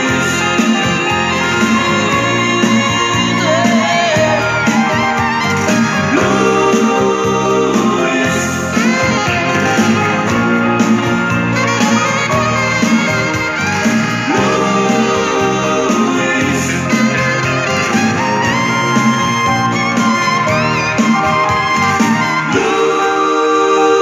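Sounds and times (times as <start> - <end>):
electronic keyboard pop ballad: 0.0 - 24.0.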